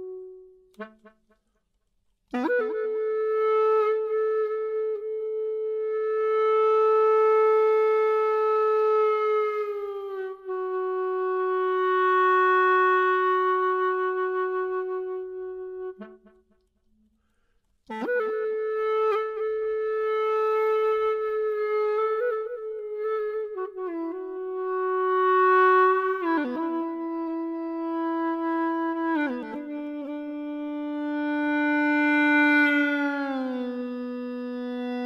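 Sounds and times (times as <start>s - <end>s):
gourd flute playing long notes: 0.0s - 1.1s, 2.3s - 16.3s, 17.9s - 35.0s.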